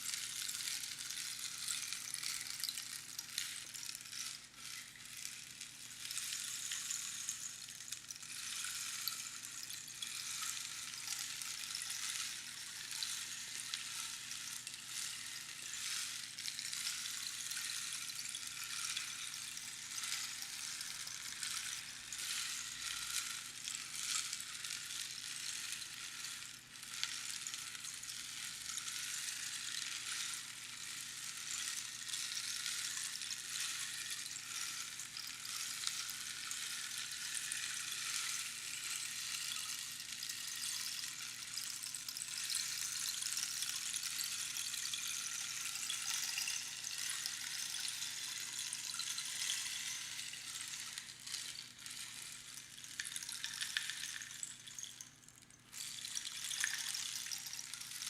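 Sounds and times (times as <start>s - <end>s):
rainstick pebbles trickling: 0.0s - 58.0s.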